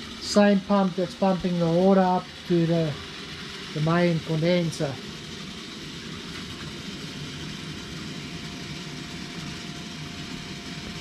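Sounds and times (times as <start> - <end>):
running water through hoses: 0.0 - 11.0.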